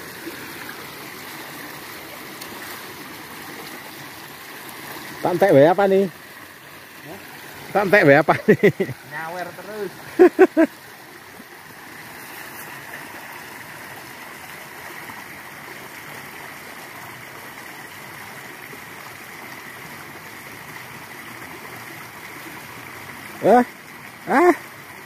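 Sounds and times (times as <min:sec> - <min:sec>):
stream rushing over riffle: 0:00.0 - 0:25.0.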